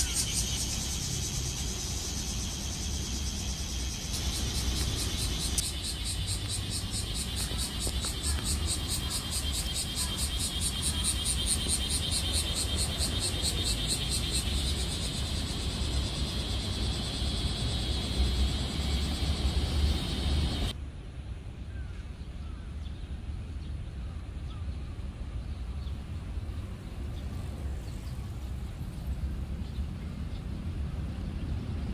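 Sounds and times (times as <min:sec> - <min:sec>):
cicadas singing: 0:00.0 - 0:20.8, 0:24.1 - 0:31.9.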